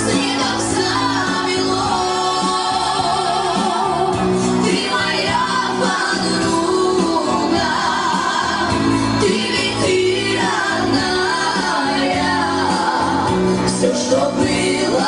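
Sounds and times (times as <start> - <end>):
song with singing: 0.0 - 15.0.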